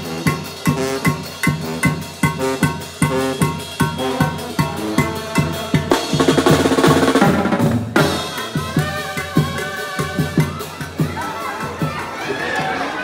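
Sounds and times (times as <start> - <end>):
bass drum beat: 0.0 - 12.0
cymbals: 0.0 - 12.2
snare drum: 0.0 - 12.8
trumpets: 0.0 - 13.0.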